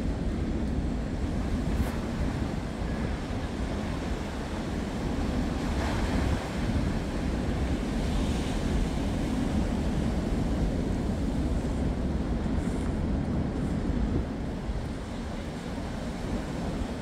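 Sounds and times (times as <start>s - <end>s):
surf breaking on a beach: 0.0s - 17.0s
wind rumble on microphone: 0.0s - 17.0s.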